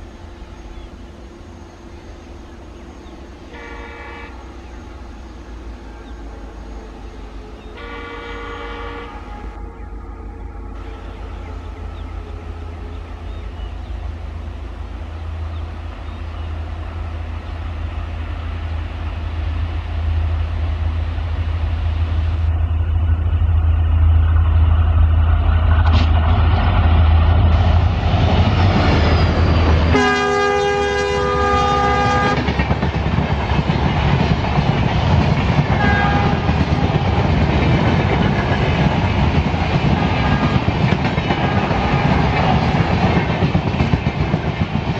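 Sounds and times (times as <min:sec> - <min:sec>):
multi-tone train horn: 0:00.0 - 0:22.8, 0:27.5 - 0:32.7, 0:35.4 - 0:43.5
diesel locomotive drone: 0:00.0 - 0:44.9.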